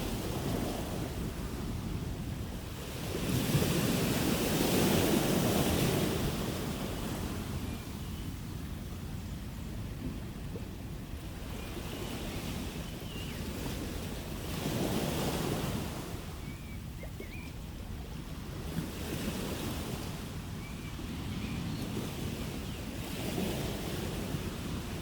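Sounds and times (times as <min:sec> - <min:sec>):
ocean waves breaking: 0:00.0 - 0:07.7, 0:10.0 - 0:16.4, 0:17.2 - 0:25.0.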